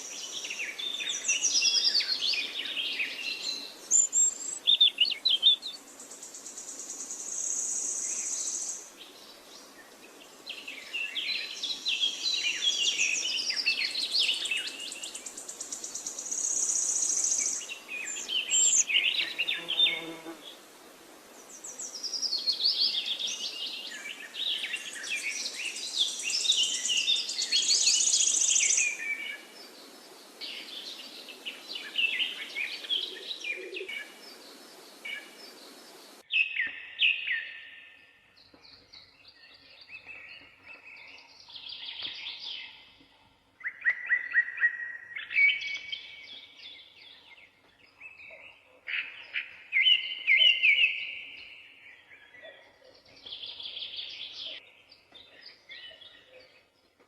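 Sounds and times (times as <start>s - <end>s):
songbirds chirping and warbling: 0.0s - 57.0s.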